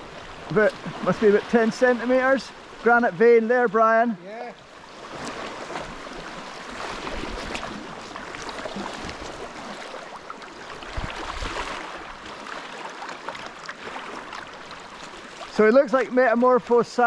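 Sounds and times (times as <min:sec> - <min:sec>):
water splashing around a kayak: 0:00.0 - 0:17.0.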